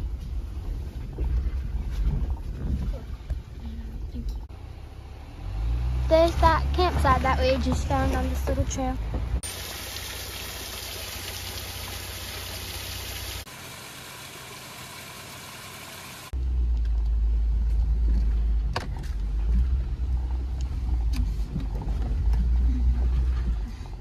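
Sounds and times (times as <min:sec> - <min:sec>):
vehicle rumbling on gravel road: 0:00.0 - 0:24.0.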